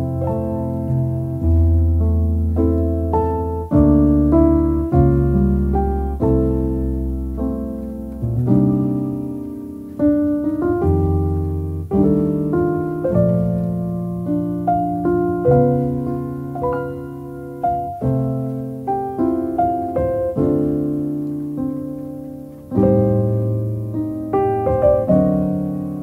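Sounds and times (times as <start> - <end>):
solo piano chords: 0.0 - 26.0.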